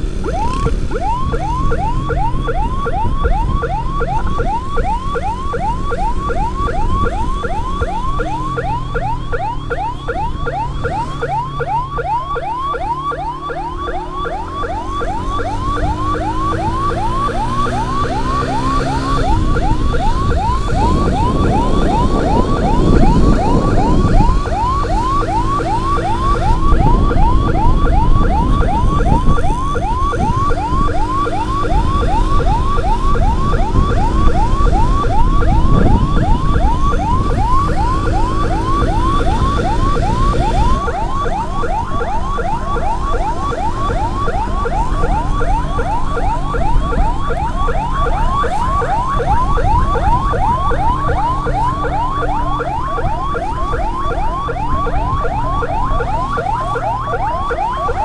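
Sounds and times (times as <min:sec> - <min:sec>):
siren yelping: 0:00.0 - 0:58.0
wind and traffic rumble: 0:00.0 - 0:58.0.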